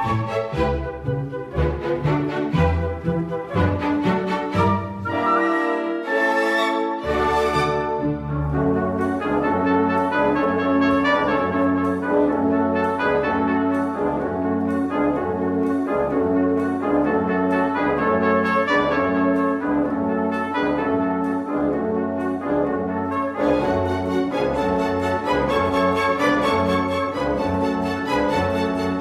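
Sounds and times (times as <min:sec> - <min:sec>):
brass-led orchestral music: 0:00.0 - 0:29.0.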